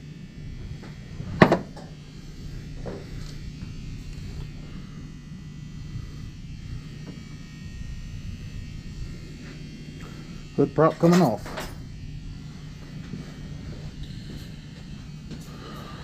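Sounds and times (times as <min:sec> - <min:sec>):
low electrical buzz: 0:00.0 - 0:16.0.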